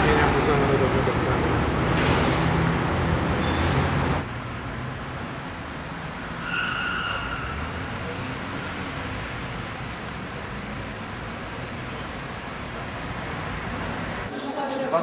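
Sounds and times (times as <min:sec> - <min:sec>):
road traffic rumble: 0:00.0 - 0:14.9.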